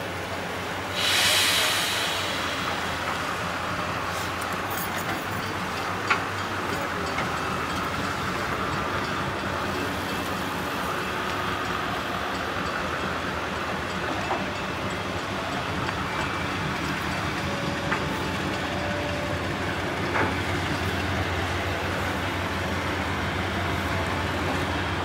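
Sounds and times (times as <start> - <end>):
locomotive engine humming: 0.0 - 25.0
rail noise: 0.0 - 25.0.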